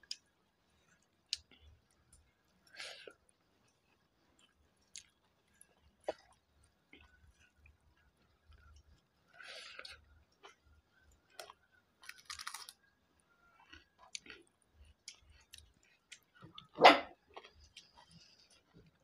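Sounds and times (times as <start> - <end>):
close-up chewing and eating: 0.0 - 19.0.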